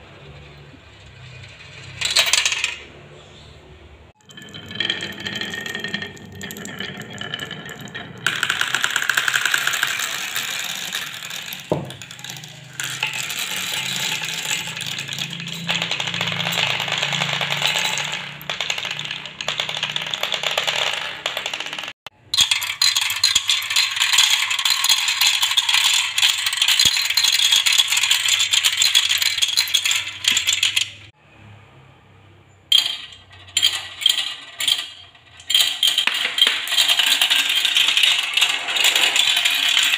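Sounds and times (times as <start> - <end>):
balls rattling down wooden track: 1.0 - 2.9, 4.2 - 31.1, 32.7 - 39.9
marbles clicking on plastic track: 1.4 - 2.8, 4.2 - 31.1, 32.7 - 39.9.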